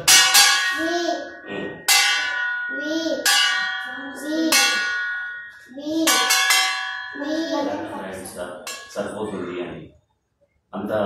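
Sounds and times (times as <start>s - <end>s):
steel plate bell clanging: 0.0s - 9.3s.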